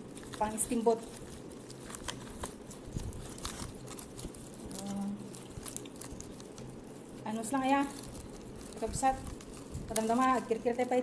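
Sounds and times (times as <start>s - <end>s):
mesh bag and garlic skins rustling: 0.0s - 11.0s.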